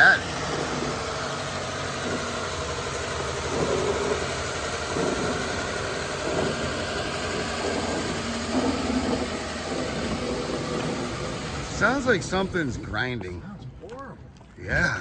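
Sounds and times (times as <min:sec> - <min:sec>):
grinding noise: 0:00.0 - 0:15.0
truck engine running: 0:00.0 - 0:15.0.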